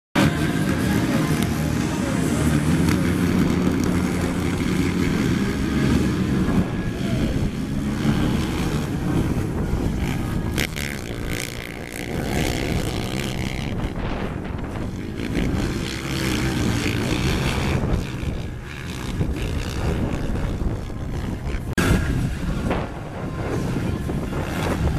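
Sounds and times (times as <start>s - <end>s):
quad engines revving: 0.2s - 24.9s.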